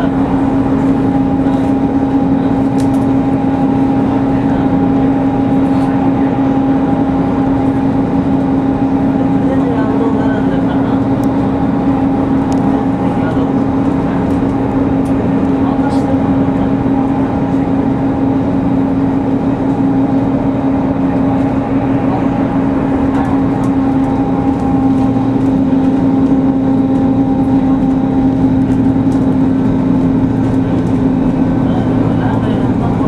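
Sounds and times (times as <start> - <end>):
bus engine humming: 0.0 - 33.0
drivetrain whine: 0.0 - 33.0.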